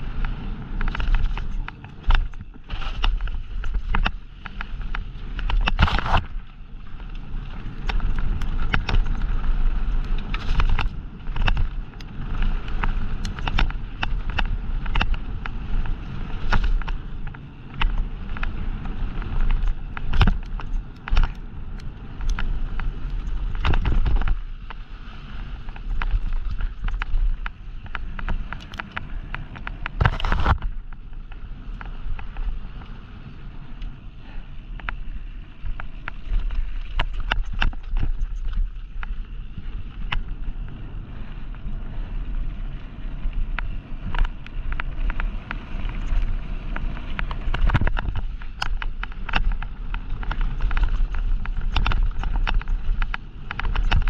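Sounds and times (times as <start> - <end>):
bike clicking and rattling: 0.0 - 54.0
wind buffeting microphone: 0.0 - 54.0.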